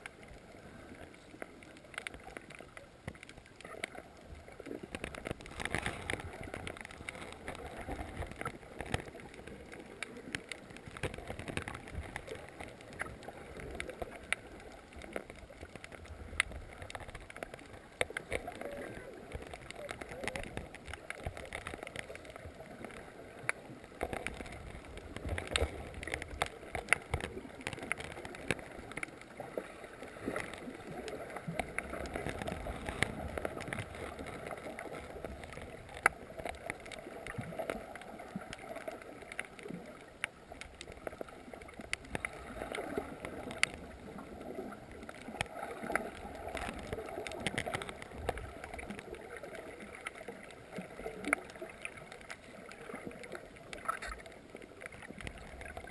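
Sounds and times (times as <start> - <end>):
sharp underwater clicks: 0.0 - 55.9
underwater water movement: 0.0 - 55.9.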